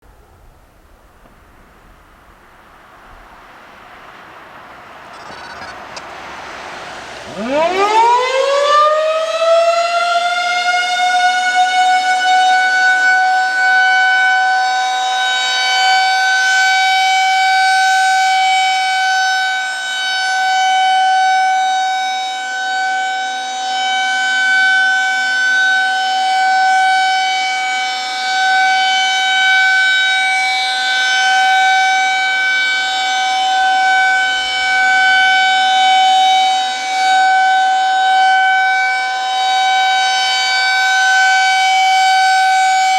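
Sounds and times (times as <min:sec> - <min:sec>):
outdoor warning siren: 0:00.1 - 0:42.9.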